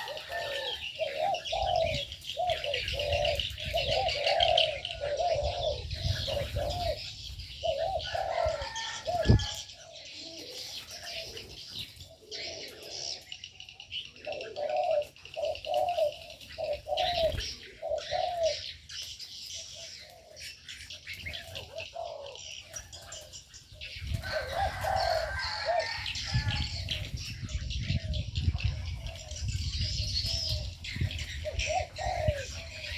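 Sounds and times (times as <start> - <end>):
doves cooing: 0.0 - 32.9
small birds chirping: 0.0 - 32.9.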